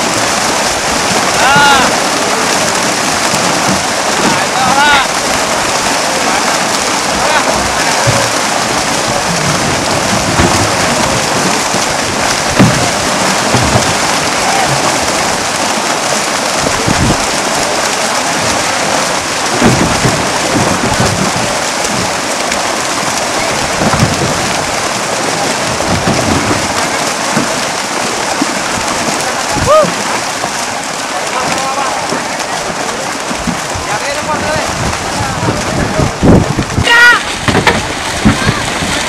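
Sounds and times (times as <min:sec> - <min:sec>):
fish splashing in a net: 0:00.0 - 0:39.0.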